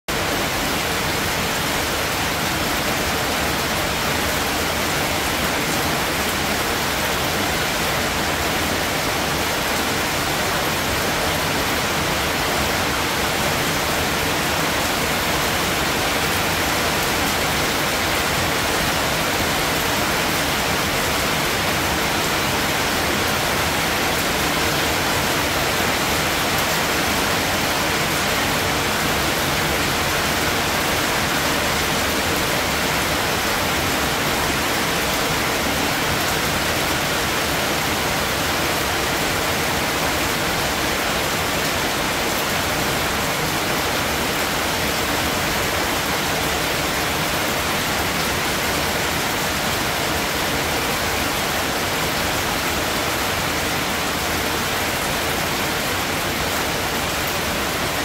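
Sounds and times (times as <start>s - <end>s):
steady rain falling: 0.1s - 58.0s.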